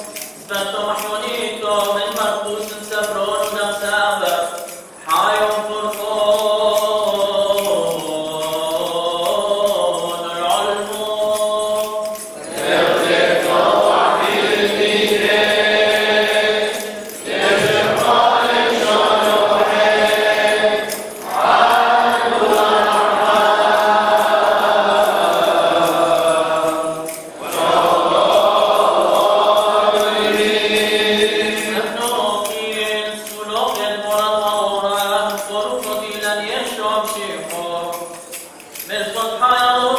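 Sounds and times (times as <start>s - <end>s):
voices singing liturgical chant: 0.0s - 39.9s.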